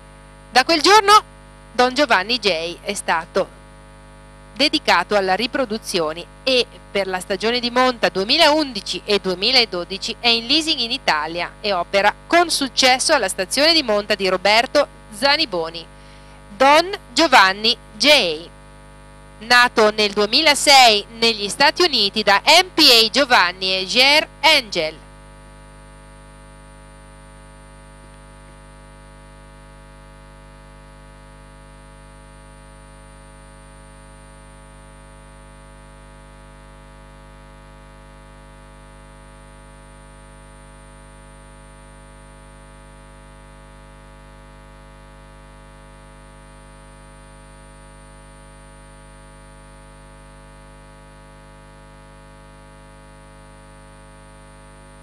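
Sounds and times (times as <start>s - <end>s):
electrical mains hum: 0.0s - 55.0s
faint high whine: 0.0s - 55.0s.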